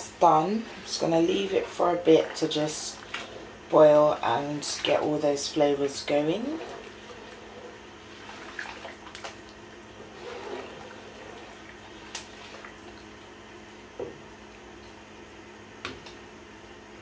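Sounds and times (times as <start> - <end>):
boiling water sloshing and bubbling: 0.0 - 17.0.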